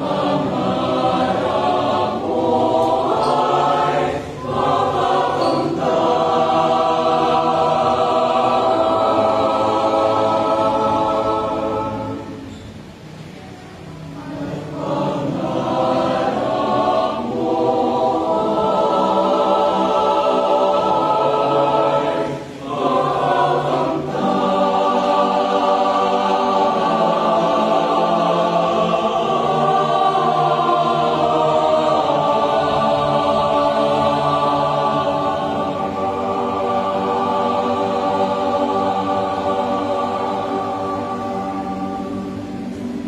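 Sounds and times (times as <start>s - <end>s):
mixed choir singing: 0.0s - 43.0s.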